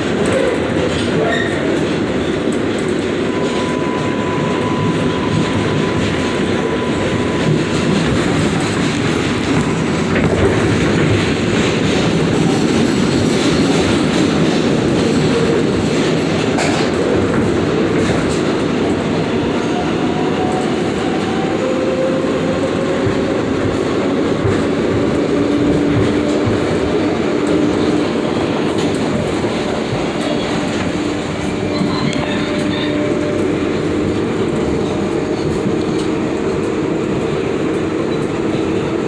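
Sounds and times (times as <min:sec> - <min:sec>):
subway train wheels rumbling: 0:00.0 - 0:39.0.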